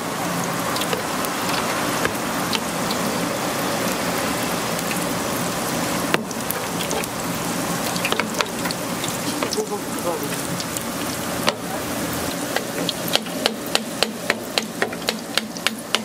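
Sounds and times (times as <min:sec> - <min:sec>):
oil frying in a deep fryer: 0:00.0 - 0:16.0.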